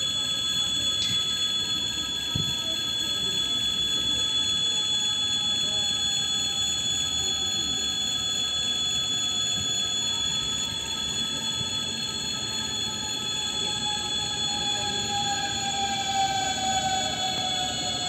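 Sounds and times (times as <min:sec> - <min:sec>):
electric train whine: 0:00.0 - 0:18.0.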